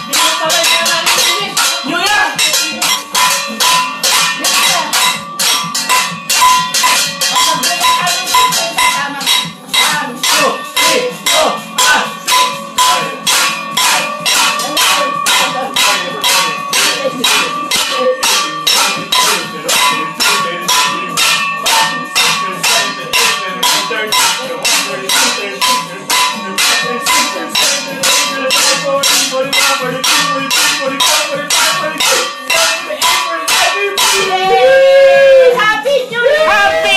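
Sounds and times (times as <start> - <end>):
metal pots clanging: 0.0 - 35.5.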